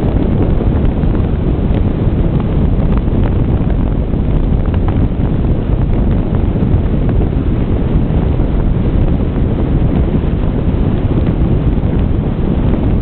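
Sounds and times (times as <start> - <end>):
car road noise: 0.0 - 13.0
wind buffeting microphone: 0.0 - 13.0.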